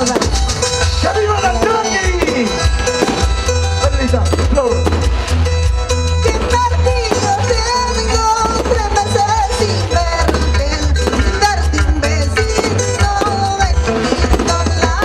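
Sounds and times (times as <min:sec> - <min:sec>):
live folk band music: 0:00.0 - 0:15.0
pounding bass beat: 0:00.0 - 0:15.0.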